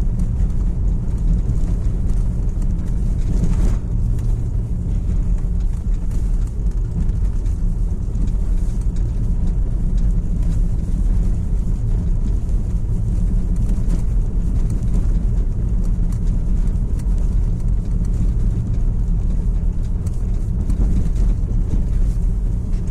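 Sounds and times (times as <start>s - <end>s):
road vehicle rumble: 0.0s - 22.9s.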